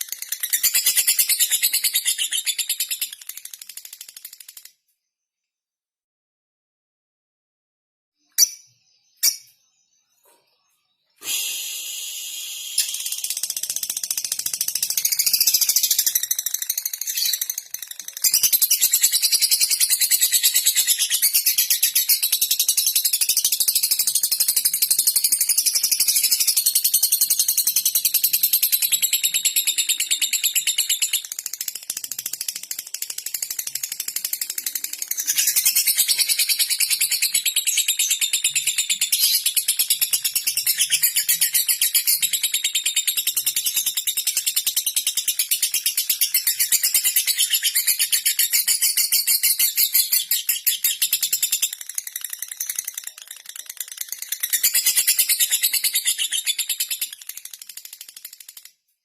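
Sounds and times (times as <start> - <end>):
lovebird rapid high-pitched chatter: 0.0 - 4.8, 11.9 - 58.8.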